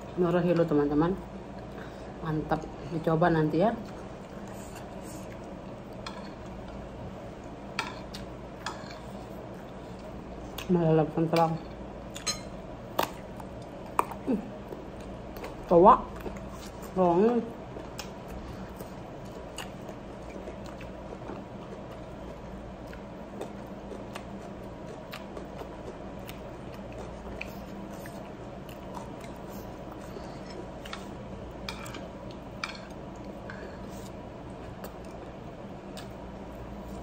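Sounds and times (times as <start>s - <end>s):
low room hum: 0.0s - 37.0s
person chewing food: 3.8s - 10.7s, 11.6s - 16.9s, 17.6s - 37.0s.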